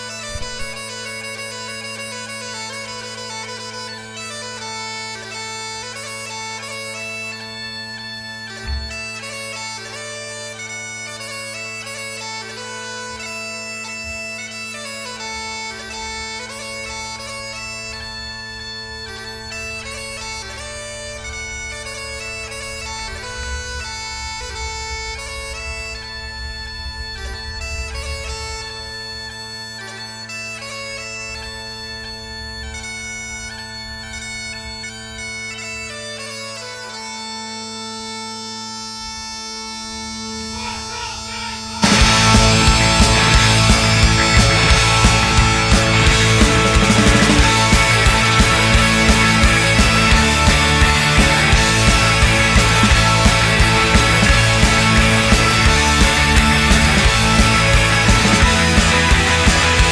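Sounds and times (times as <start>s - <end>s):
high shifting melody: 0.0s - 59.9s
low drone: 0.0s - 59.9s.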